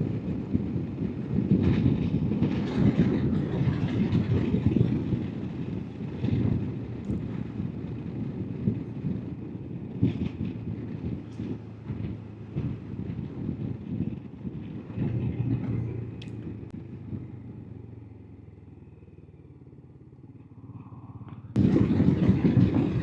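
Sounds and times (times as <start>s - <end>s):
wind noise on microphone: 0.0s - 18.4s, 20.4s - 23.0s
motorcycle engine running: 0.2s - 23.0s.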